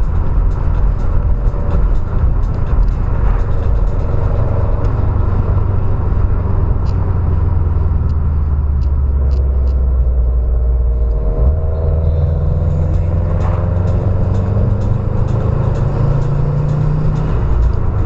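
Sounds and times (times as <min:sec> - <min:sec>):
car engine rumbling at low revs: 0:00.0 - 0:18.0.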